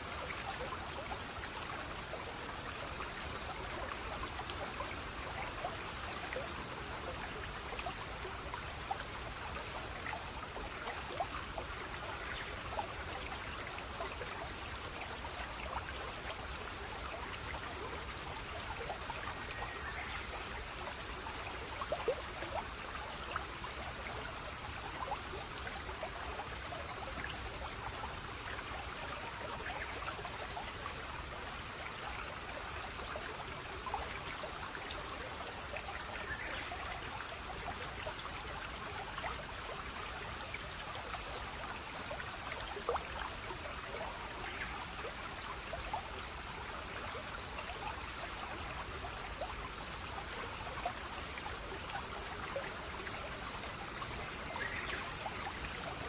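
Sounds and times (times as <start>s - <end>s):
stream trickling over stones: 0.0s - 56.0s
water splashes and drips: 0.0s - 56.0s.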